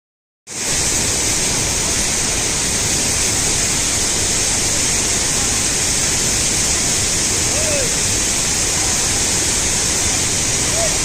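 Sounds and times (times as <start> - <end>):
waterfall rushing: 0.5 - 11.0.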